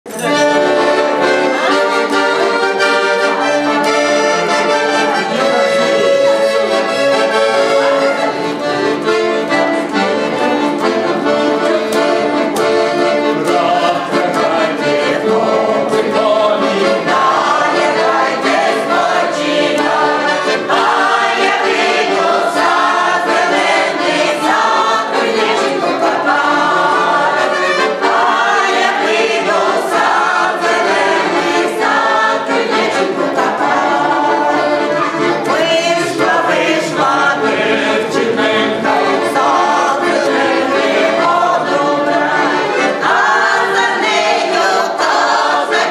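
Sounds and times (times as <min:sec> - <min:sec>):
accordion playing: 0:00.1 - 0:45.9
choir singing: 0:00.1 - 0:45.9.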